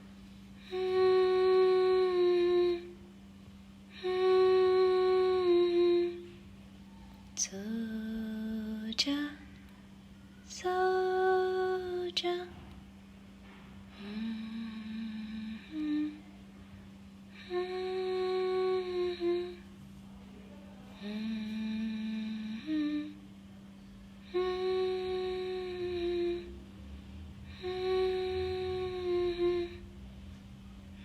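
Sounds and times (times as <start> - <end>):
person humming a lullaby: 0.0 - 3.2, 3.8 - 12.6, 13.9 - 19.8, 20.7 - 23.6, 24.2 - 26.8, 27.4 - 30.0
steady low hum: 0.0 - 31.0.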